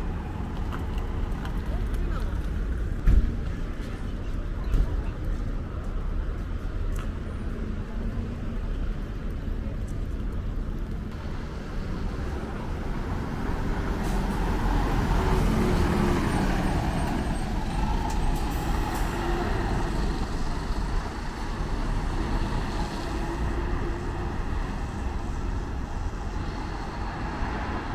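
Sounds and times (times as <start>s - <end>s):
bus engines rumbling: 0.0s - 27.9s
traffic noise: 0.0s - 27.9s.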